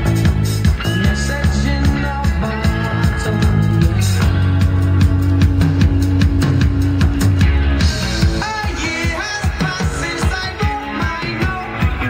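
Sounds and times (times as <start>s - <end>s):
rock music over loudspeakers: 0.0s - 12.0s.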